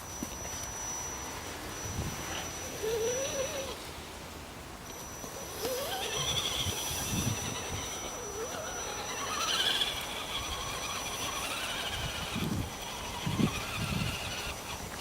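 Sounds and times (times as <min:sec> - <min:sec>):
electric motor whining: 0:00.0 - 0:04.0, 0:04.8 - 0:15.0.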